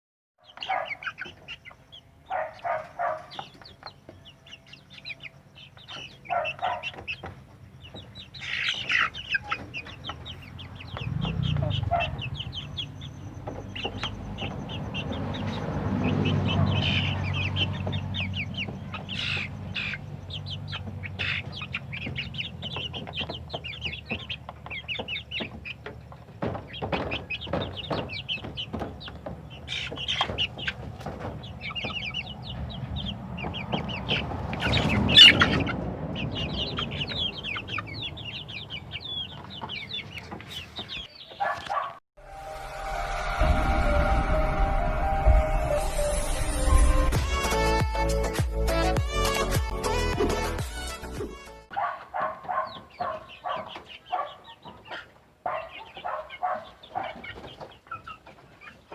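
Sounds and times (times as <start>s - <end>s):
chickens clucking and peeping: 0.4s - 58.9s.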